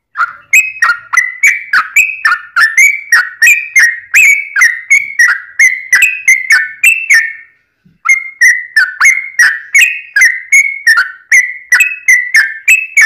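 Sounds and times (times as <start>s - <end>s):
bird singing whistled notes: 0.1s - 13.0s.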